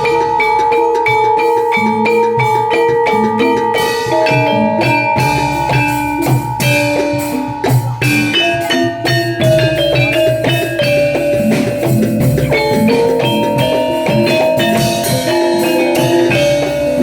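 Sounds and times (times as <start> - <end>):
drum strokes: 0.0 - 17.0
metallophone melody: 0.0 - 17.0.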